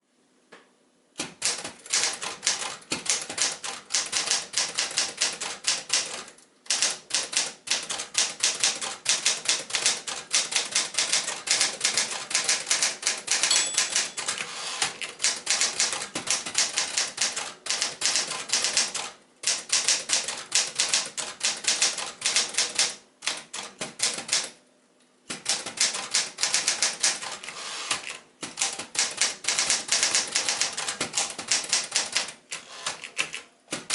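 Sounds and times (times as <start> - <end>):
manual typewriter typing: 1.2 - 24.6, 25.3 - 33.9.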